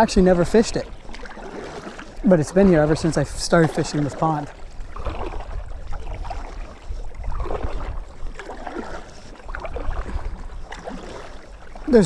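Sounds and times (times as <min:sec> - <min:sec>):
water splashing around kayak: 0:00.0 - 0:12.0
wind rumble on microphone: 0:02.2 - 0:12.0.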